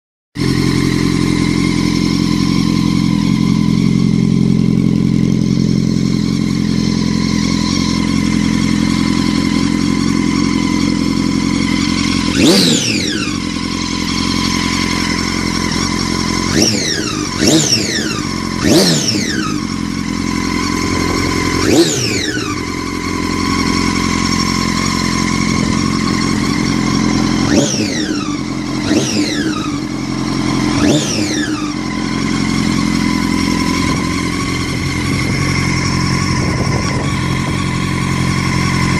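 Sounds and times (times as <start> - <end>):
motorcycle engine revving: 0.4 - 38.9
whining noise: 6.2 - 38.9.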